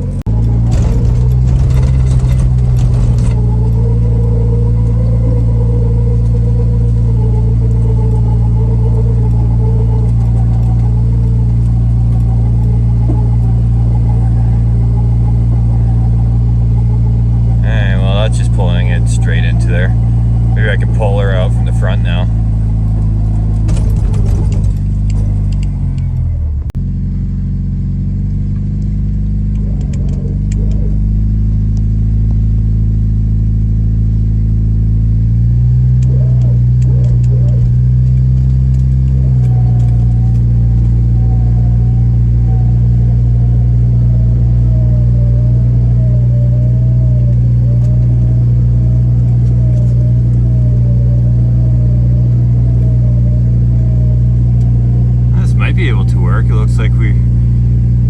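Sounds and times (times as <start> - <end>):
wavering whine: 0.0 - 26.7, 35.9 - 58.0
engine revving: 0.0 - 58.0.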